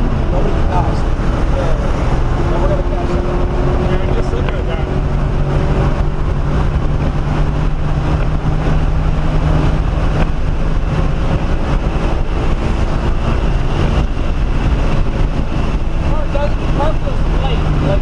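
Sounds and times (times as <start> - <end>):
car engine at high speed: 0.0 - 18.0
wind and road noise: 0.0 - 18.0.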